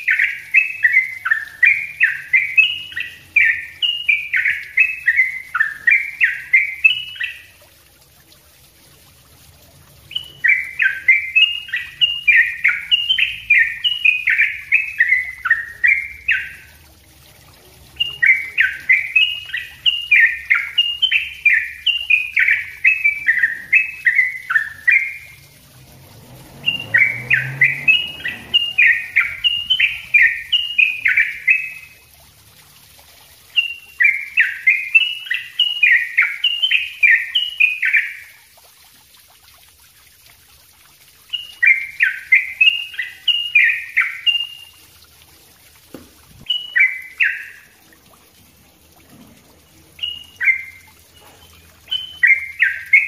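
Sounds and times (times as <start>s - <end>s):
bulbul singing: 0.0s - 38.5s, 41.0s - 53.0s.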